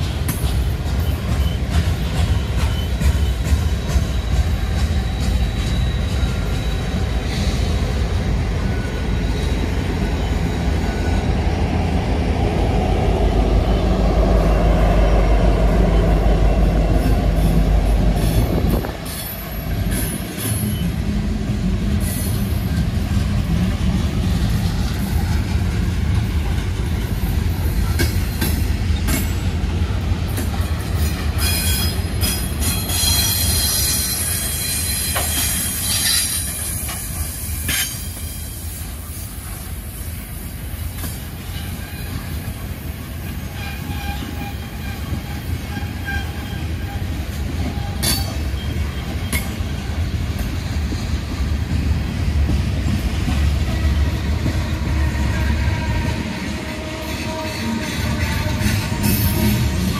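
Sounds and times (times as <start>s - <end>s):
train cars clattering: 0.0s - 11.4s, 13.6s - 56.6s
train wheels squealing: 0.0s - 12.1s, 13.6s - 51.7s, 52.8s - 59.9s.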